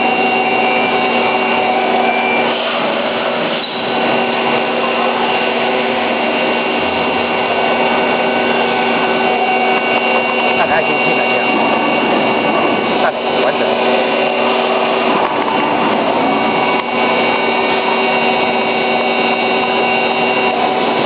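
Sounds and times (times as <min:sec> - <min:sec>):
constant whining tones: 0:00.0 - 0:21.0
lathe machining whir: 0:00.0 - 0:21.0.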